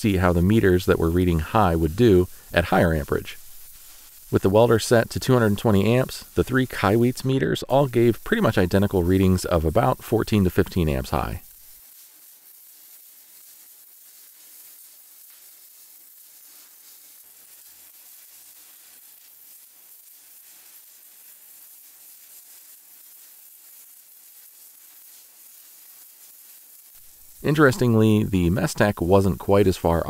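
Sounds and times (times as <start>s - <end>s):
welding arc crackling sizzle: 0.0s - 30.0s.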